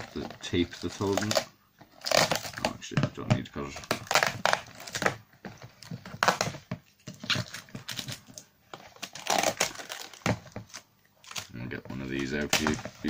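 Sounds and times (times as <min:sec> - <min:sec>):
plastic tub crinkling: 0:00.0 - 0:13.0.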